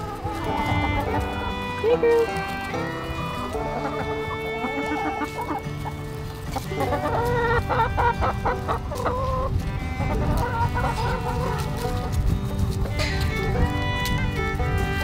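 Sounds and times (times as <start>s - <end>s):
background music: 0.0s - 15.0s
hens clucking: 0.0s - 15.0s.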